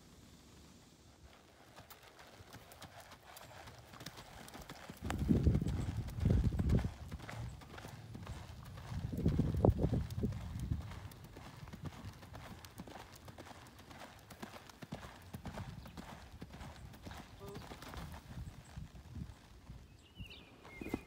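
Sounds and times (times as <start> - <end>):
horse hoofbeats on sand: 1.3 - 21.0.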